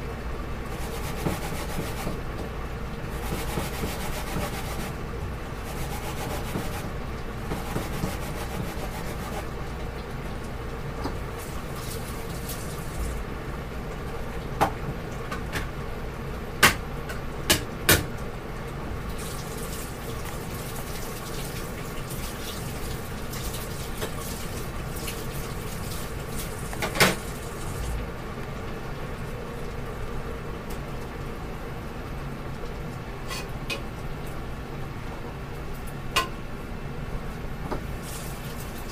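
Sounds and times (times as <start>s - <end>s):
background hiss and hum: 0.0s - 38.9s.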